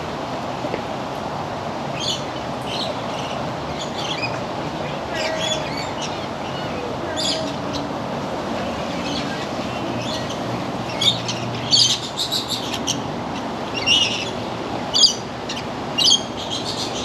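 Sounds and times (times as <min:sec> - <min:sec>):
parrots chirping and squawking: 0:02.0 - 0:07.9, 0:08.6 - 0:17.0.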